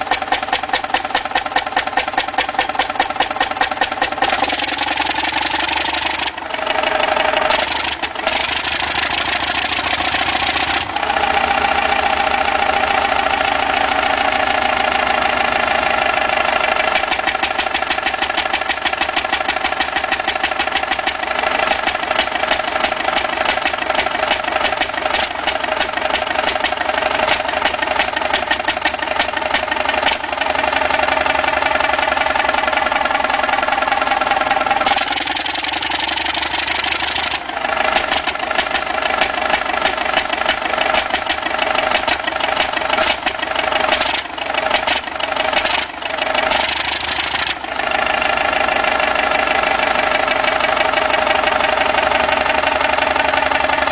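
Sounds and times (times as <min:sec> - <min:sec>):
old engine running: 0:00.0 - 0:53.9.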